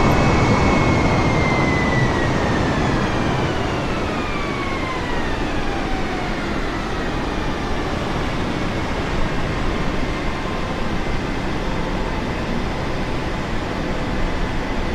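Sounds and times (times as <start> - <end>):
jet engines winding down: 0.0 - 14.9.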